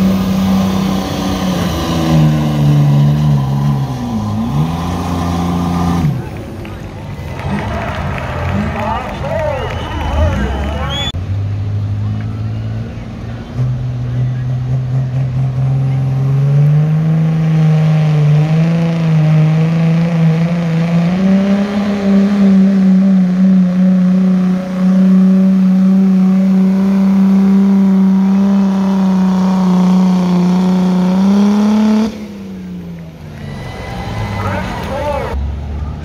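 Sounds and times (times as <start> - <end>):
diesel engine revving under load: 0.0 - 36.0.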